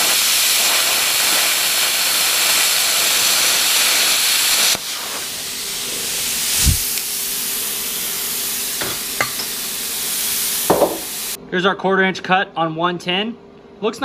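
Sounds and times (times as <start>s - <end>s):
plasma cutter hissing: 0.0s - 11.4s.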